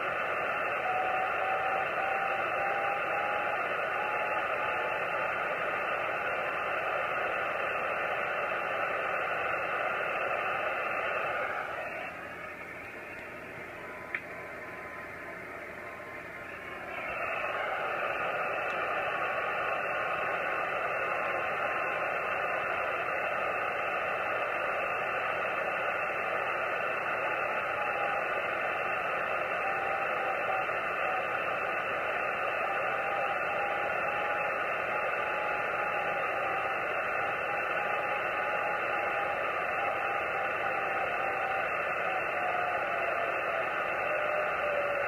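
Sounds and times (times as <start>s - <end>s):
radio receiver hiss: 0.0s - 45.0s.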